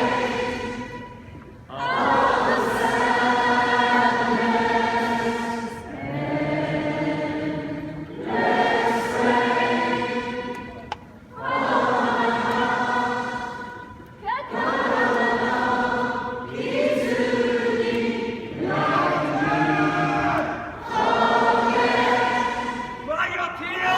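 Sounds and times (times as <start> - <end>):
crowd singing slow melody: 0.0 - 23.1.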